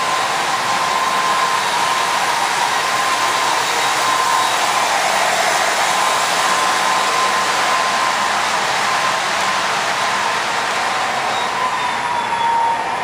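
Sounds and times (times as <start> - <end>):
model train running past: 0.0 - 13.0.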